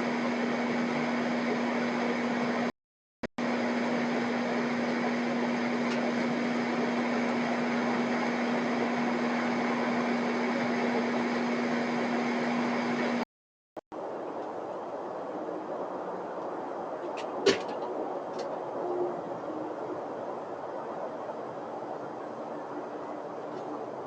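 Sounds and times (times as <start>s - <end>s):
steady mechanical hum: 0.0s - 2.7s, 3.4s - 13.2s, 13.9s - 24.0s.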